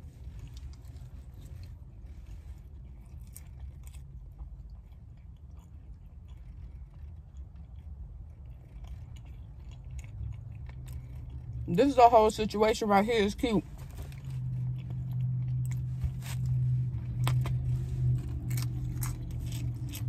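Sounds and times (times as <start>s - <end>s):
person chewing: 0.0s - 11.7s, 13.7s - 20.0s
steady low hum: 0.0s - 20.0s.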